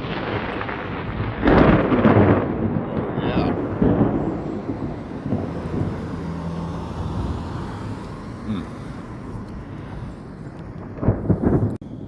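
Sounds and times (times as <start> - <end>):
thunder rumbling: 0.0 - 12.0.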